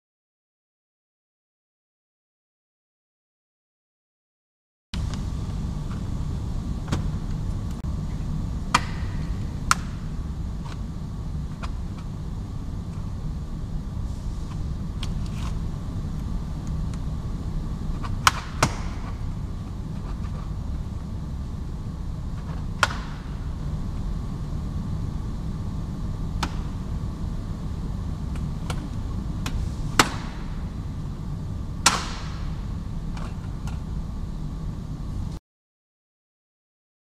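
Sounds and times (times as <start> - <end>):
low hum: 5.0 - 35.4.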